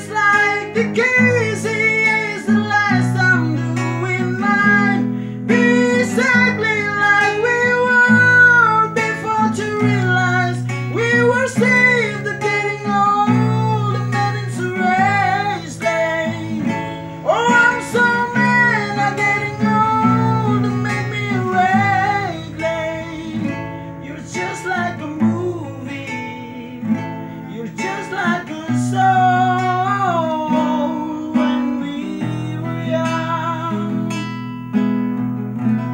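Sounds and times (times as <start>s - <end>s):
person singing with vibrato: 0.0s - 34.5s
strummed acoustic guitar: 0.0s - 35.9s.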